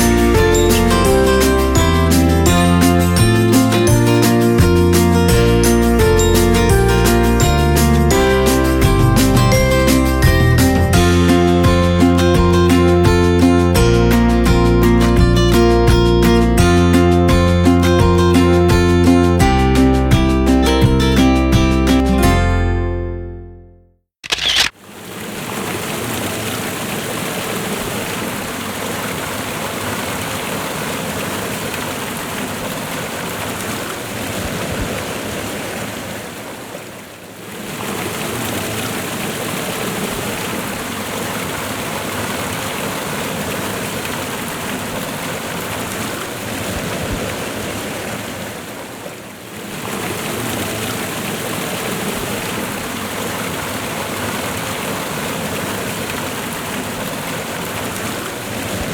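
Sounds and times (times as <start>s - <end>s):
running water rushing: 0.0s - 15.7s, 24.3s - 58.9s.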